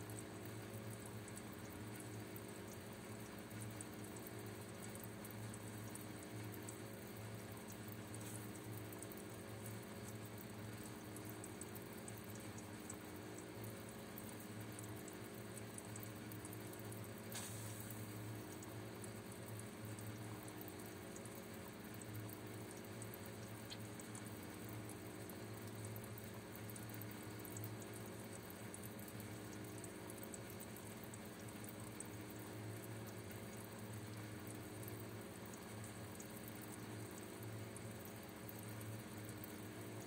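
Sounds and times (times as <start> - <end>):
aquarium water bubbling: 0.0 - 40.0.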